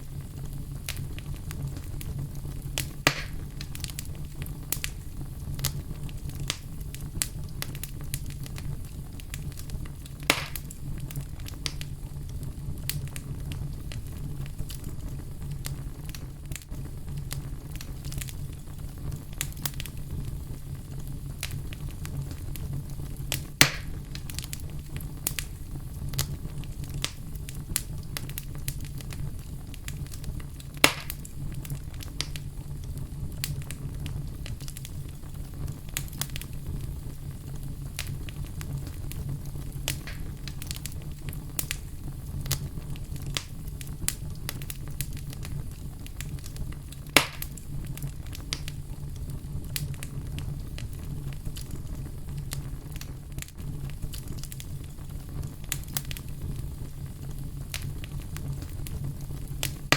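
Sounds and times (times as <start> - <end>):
fireplace fire crackling: 0.0 - 59.9
loud sharp pops from fire: 0.0 - 59.9.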